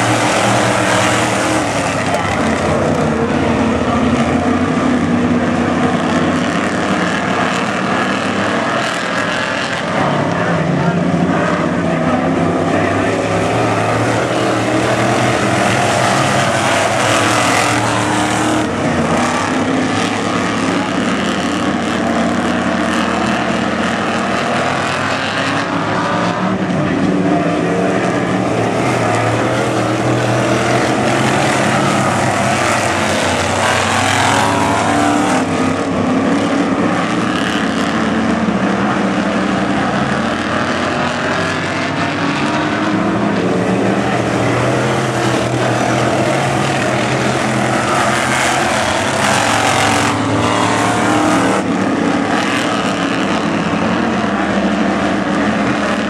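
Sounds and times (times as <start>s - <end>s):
race car engines running hard: 0.0s - 56.0s.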